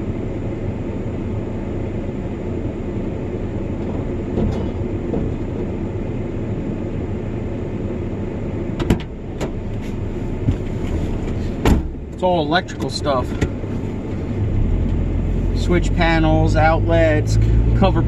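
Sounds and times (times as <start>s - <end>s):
motor vehicle engine rumble: 0.0s - 18.0s.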